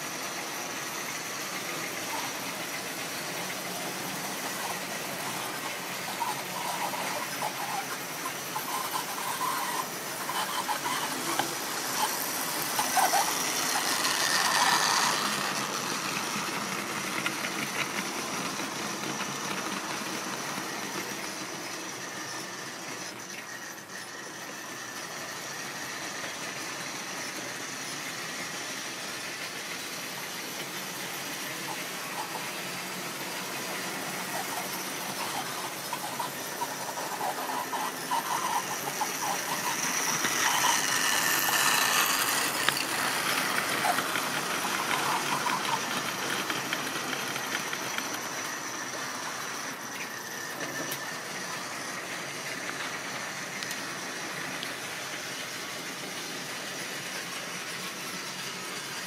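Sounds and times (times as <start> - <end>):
model train wheels clattering: 0.0 - 59.0
steady hiss: 0.0 - 59.0.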